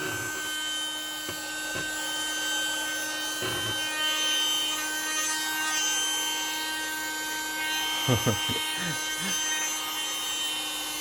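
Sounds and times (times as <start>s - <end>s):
handheld vacuum cleaner motor whine: 0.0s - 11.0s.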